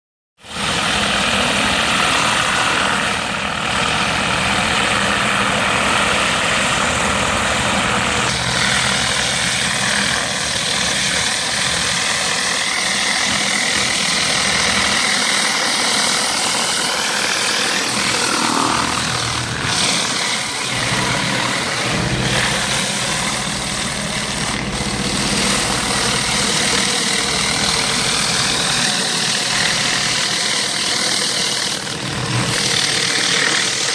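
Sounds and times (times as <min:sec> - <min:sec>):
high-pressure water jet hissing: 0:00.4 - 0:33.9
pressure washer pump running: 0:00.4 - 0:33.9.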